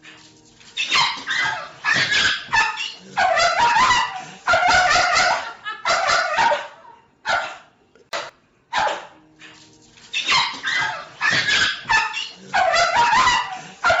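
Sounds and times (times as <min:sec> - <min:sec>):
dog barking: 0:00.8 - 0:07.8, 0:08.7 - 0:09.6, 0:10.2 - 0:14.0.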